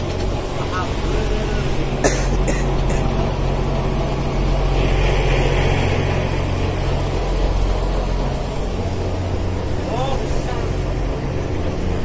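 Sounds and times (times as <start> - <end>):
boat engine running: 0.0 - 12.0
wind: 0.0 - 12.0.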